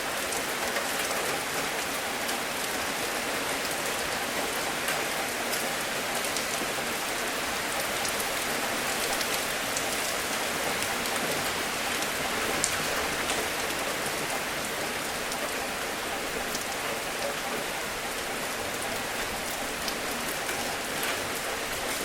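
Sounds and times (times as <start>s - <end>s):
steady rain hiss: 0.0s - 22.0s
raindrops ticking: 3.6s - 22.0s.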